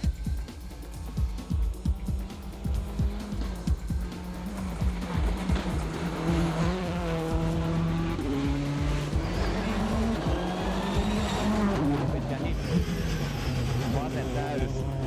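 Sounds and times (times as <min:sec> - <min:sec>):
background music: 0:00.0 - 0:15.0
rally car engine revving: 0:01.4 - 0:15.0.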